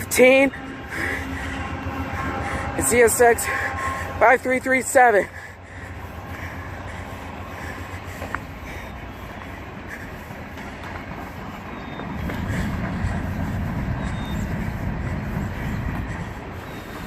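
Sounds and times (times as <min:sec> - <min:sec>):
train low rumble: 0:00.0 - 0:17.0
train wheels clicking over rail joints: 0:00.0 - 0:17.0.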